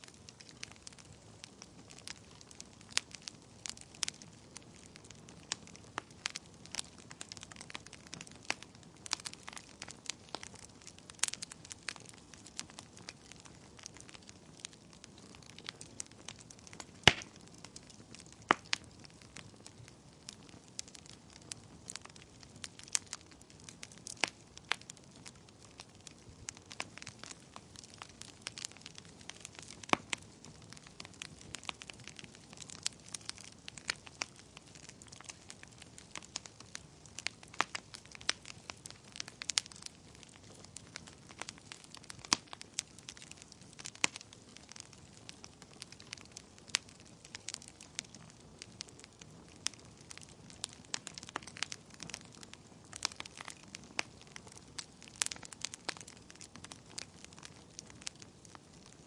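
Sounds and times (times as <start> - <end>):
wood fire popping and crackling: 0.0 - 59.0.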